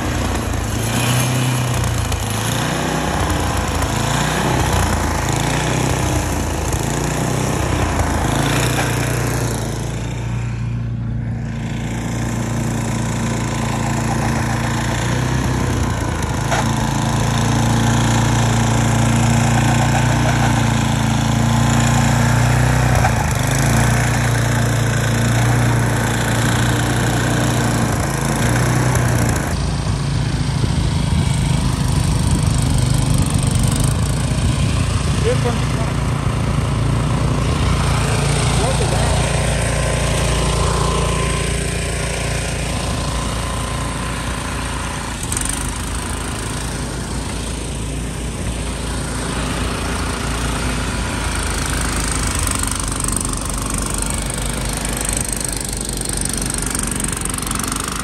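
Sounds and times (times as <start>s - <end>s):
auger churning through snow: 0.0s - 58.0s
snow blower engine running: 0.0s - 58.0s.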